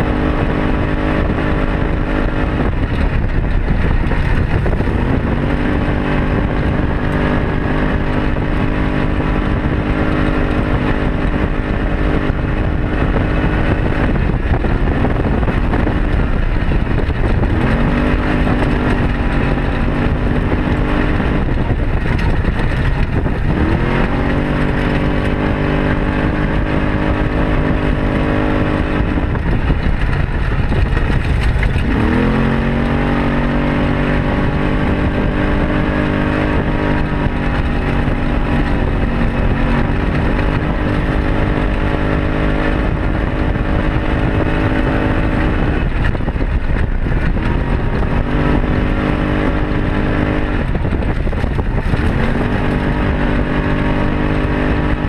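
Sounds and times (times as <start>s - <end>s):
rushing noise: 0.0s - 55.0s
utility vehicle engine revving: 0.0s - 55.0s.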